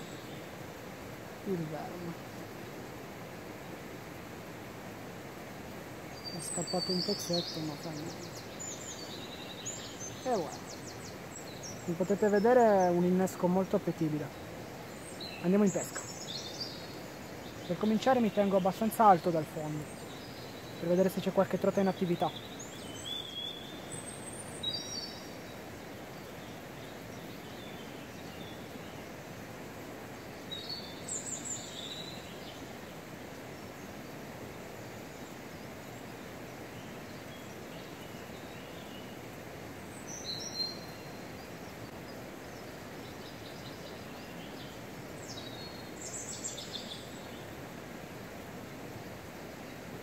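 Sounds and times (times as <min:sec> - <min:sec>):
river water flowing: 0:00.0 - 0:50.0
songbird singing: 0:00.0 - 0:50.0.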